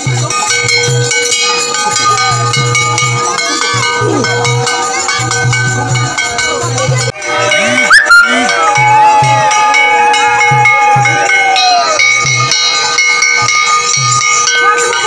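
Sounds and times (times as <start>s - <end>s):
crowd voices: 0.0s - 15.0s
metal bells ringing: 0.0s - 15.0s.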